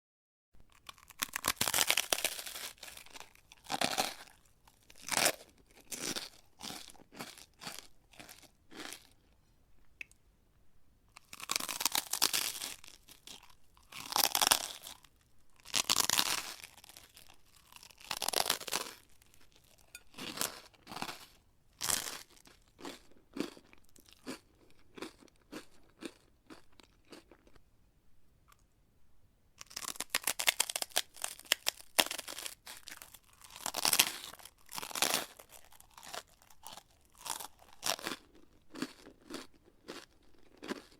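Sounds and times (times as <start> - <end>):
crispy food crunching: 0.7 - 9.4, 11.1 - 27.6, 29.6 - 40.9.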